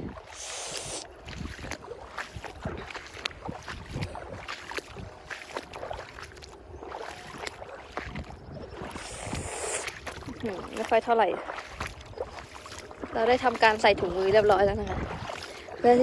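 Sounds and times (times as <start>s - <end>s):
seawater sloshing while wading: 0.0s - 16.0s.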